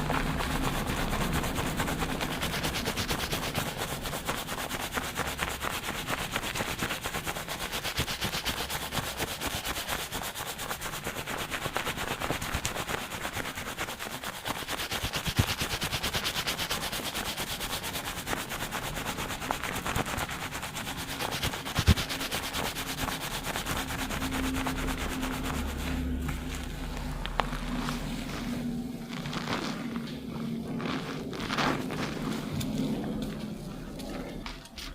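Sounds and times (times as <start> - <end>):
fingers scrubbing lathered scalp: 0.0 - 34.4.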